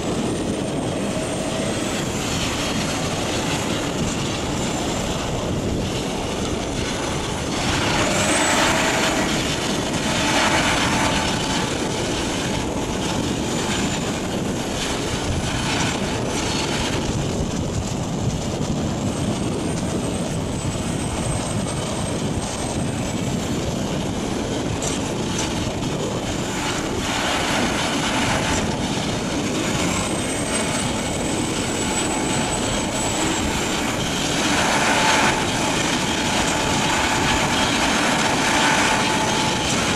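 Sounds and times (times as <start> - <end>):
excavator engine: 0.0 - 18.5, 23.8 - 39.9.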